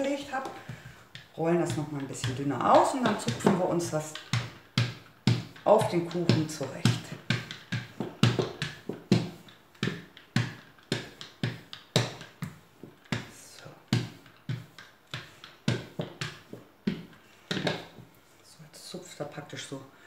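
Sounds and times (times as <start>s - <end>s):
dough roller knocking: 0.0s - 18.2s.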